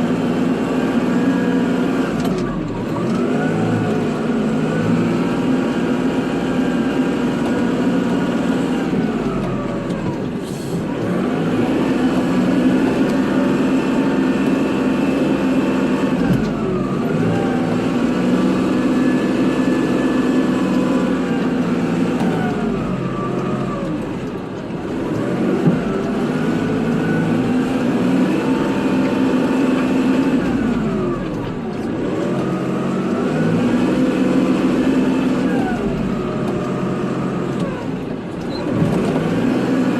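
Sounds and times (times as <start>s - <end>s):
tractor diesel engine running hard: 0.0s - 39.9s.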